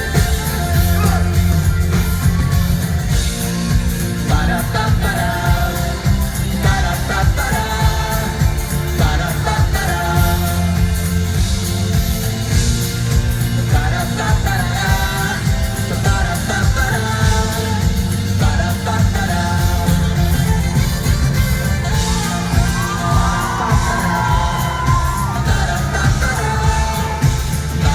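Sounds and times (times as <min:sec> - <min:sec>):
heavy bass line: 0:00.0 - 0:27.9
live band playing pop song: 0:00.0 - 0:27.9
person singing: 0:00.0 - 0:27.9.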